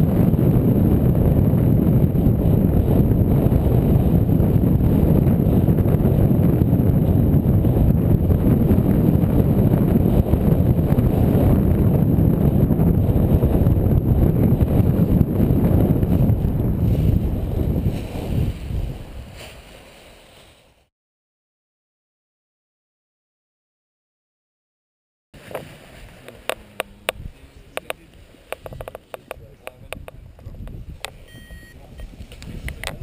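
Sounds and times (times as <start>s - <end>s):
wind buffeting microphone: 0.0s - 19.8s, 25.4s - 33.0s.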